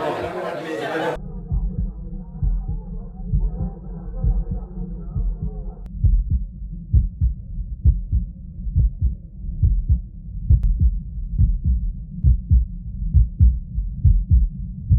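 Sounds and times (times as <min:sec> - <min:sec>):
heartbeat through stethoscope: 0:01.2 - 0:14.9
low background rumble: 0:01.2 - 0:14.9.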